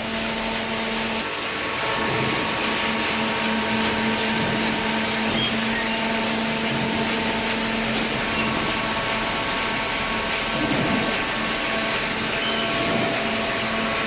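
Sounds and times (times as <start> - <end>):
baler machine droning: 0.0 - 14.0.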